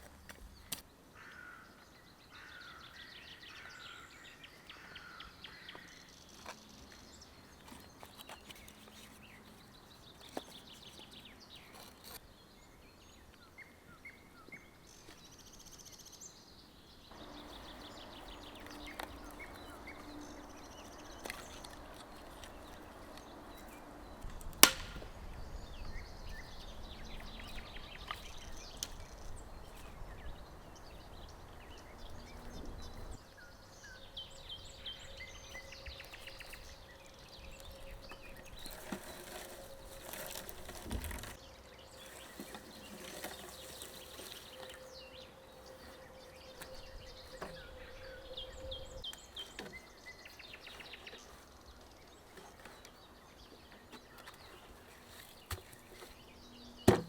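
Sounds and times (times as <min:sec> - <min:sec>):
small birds twittering: 0:00.0 - 0:57.0.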